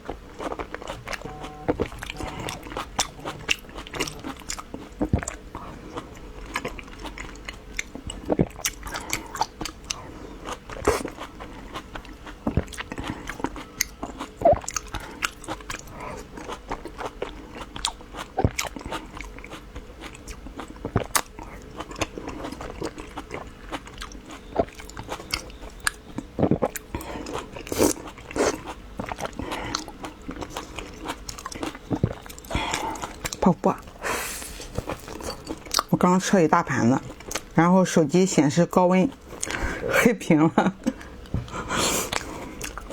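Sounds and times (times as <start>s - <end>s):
biting and chewing: 0.0s - 36.0s.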